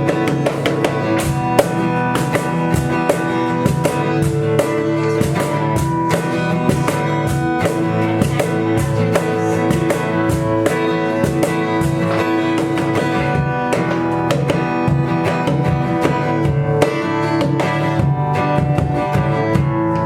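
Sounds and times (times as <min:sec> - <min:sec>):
drums: 0:00.0 - 0:20.0
guitar: 0:00.0 - 0:20.0.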